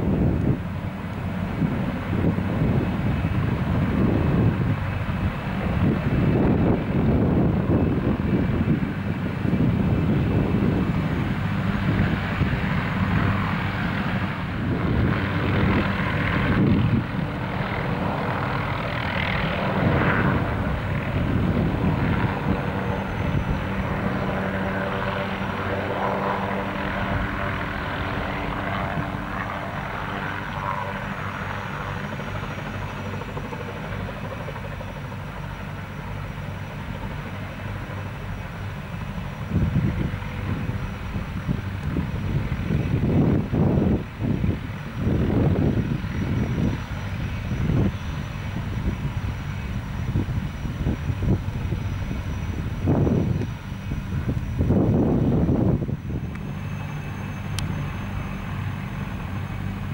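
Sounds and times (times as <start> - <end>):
helicopter rotor beat and engine hum: 0.0 - 59.9.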